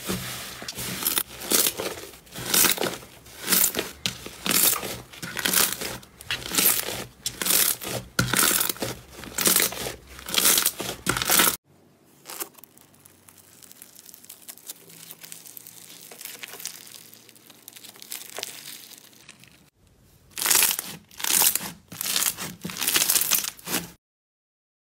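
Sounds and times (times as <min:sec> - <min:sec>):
slime crackling squishes: 0:00.0 - 0:24.0.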